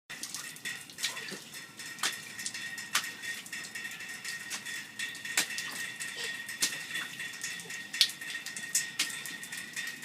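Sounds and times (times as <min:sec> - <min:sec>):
rain falling: 0:00.1 - 0:10.0
sharp taps or splashes: 0:00.1 - 0:10.0.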